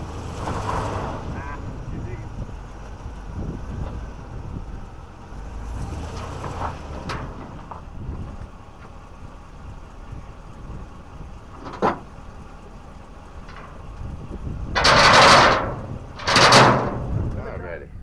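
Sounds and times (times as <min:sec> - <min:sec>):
wind rumble on microphone: 0:00.0 - 0:12.2, 0:13.4 - 0:18.0.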